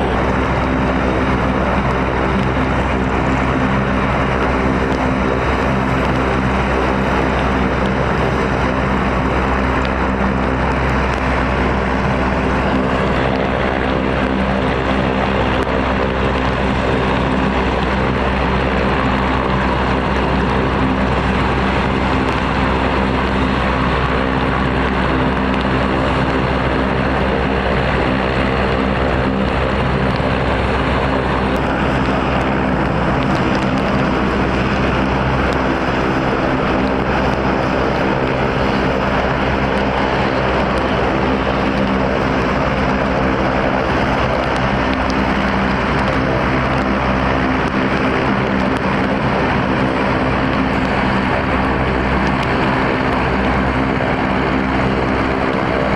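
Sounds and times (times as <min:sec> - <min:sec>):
helicopter running: 0:00.0 - 0:55.9.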